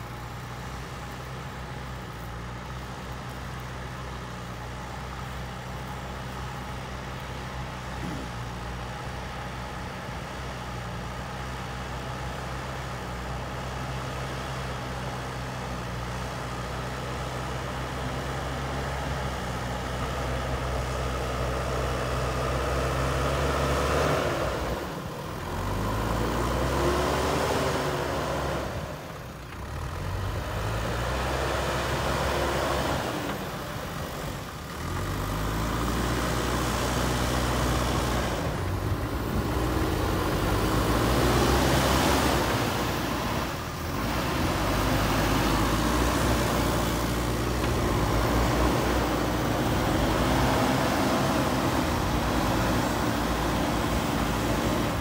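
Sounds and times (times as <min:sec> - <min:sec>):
diesel engine revving: 0:00.0 - 0:55.0
loader bucket working soil: 0:00.0 - 0:55.0.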